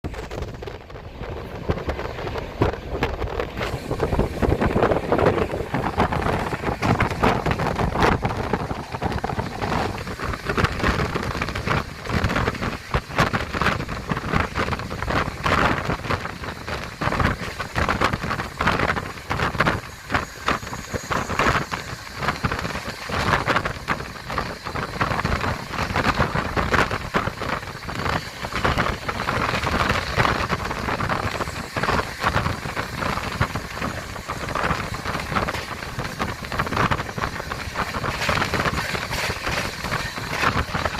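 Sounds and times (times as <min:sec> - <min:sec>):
train rattling and clatter: 0:00.0 - 0:40.9
wind buffeting microphone: 0:00.0 - 0:40.9.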